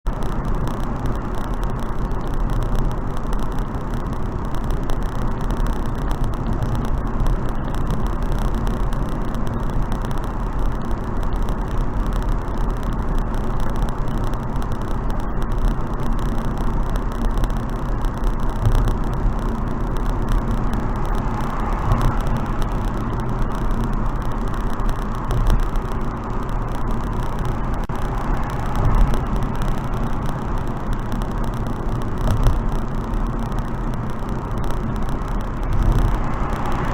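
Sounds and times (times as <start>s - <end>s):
wind noise from driving car: 0.0s - 36.9s.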